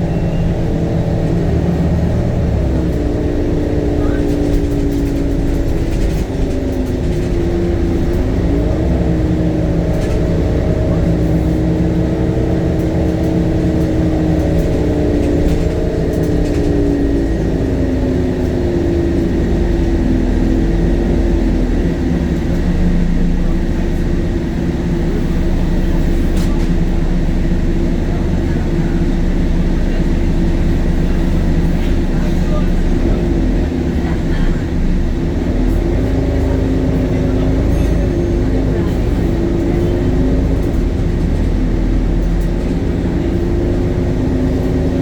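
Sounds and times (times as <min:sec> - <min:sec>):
bus diesel engine running: 0:00.0 - 0:45.0
low rumble: 0:00.0 - 0:45.0.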